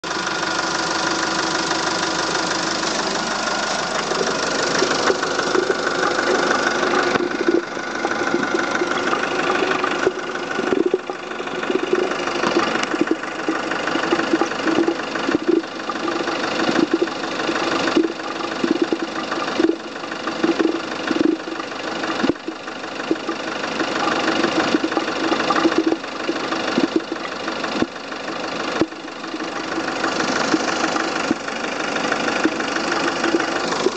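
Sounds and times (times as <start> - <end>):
car engine idling: 0.0 - 33.9
irregular pulsing noise: 0.0 - 33.9.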